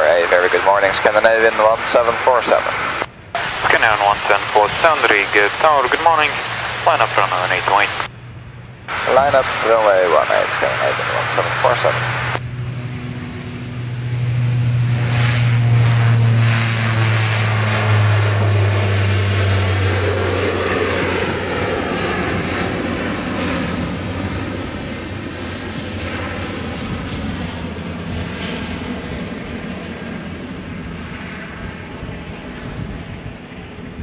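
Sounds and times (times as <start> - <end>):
propeller airliner taking off: 0.0 - 34.0.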